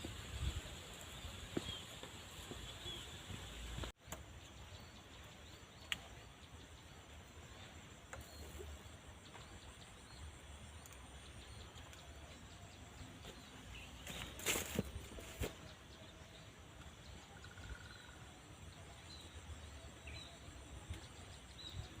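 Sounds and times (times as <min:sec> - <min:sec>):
faint bird chirps: 0:01.6 - 0:22.0.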